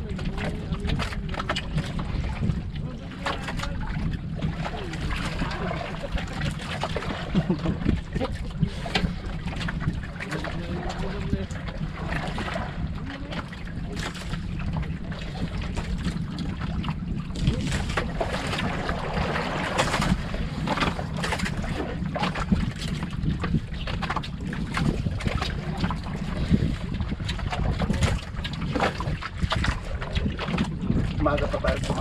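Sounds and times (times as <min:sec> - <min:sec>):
wind and sea rumble: 0:00.0 - 0:32.0.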